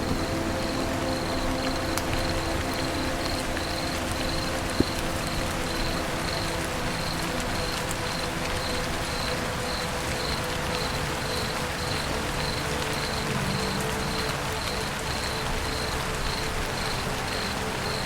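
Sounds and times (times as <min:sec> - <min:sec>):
insect chirping: 0:00.0 - 0:18.0
rain falling on a roof: 0:00.0 - 0:18.0.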